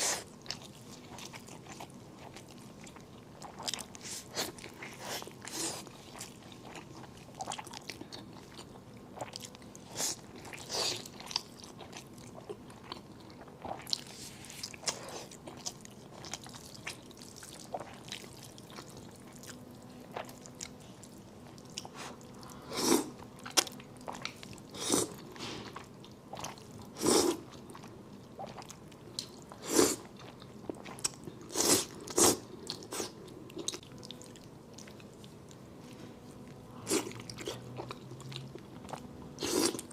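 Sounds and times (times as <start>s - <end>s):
person chewing noodles: 0.0s - 35.7s, 36.3s - 39.9s.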